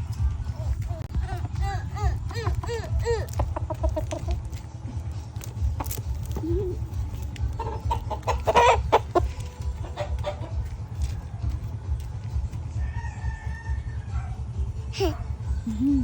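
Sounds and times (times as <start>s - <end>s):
chickens clucking: 0.0s - 15.9s
steady low rumble: 0.0s - 16.0s.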